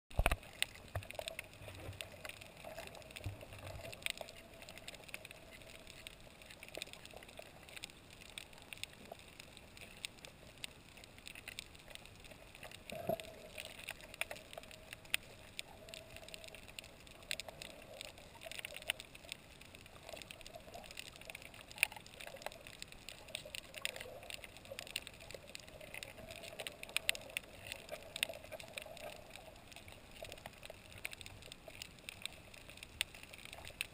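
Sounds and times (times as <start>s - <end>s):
underwater clicks and crackles: 0.1s - 33.9s.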